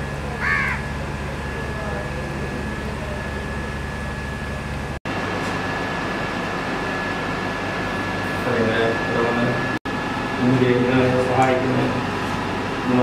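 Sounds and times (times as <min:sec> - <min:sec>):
machine hum: 0:00.0 - 0:13.0
thin high whine: 0:00.0 - 0:13.0.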